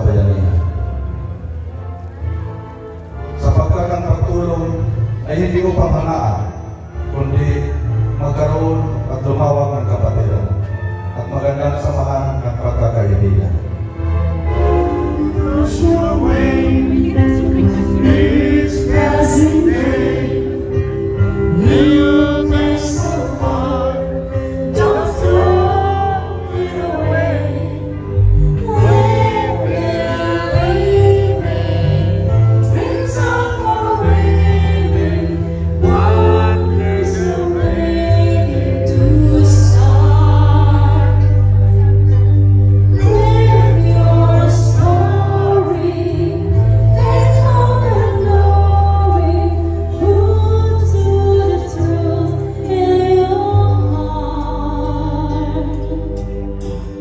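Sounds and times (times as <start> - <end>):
song with full band: 0.0 - 57.0.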